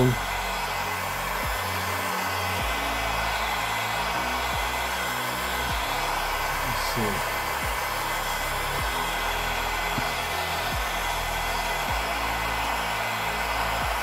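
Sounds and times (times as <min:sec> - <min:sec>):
heat gun blowing: 0:00.0 - 0:14.0
quiet background music: 0:00.0 - 0:14.0.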